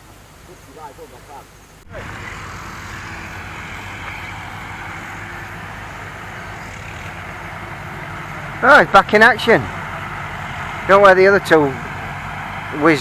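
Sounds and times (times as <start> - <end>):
combine harvester running: 1.9 - 13.0.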